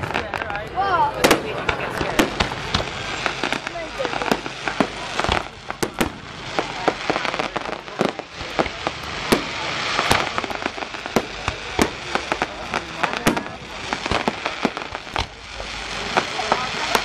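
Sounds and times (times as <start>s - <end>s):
firework crackle: 0.0s - 17.0s
firework shells bursting: 1.2s - 17.0s.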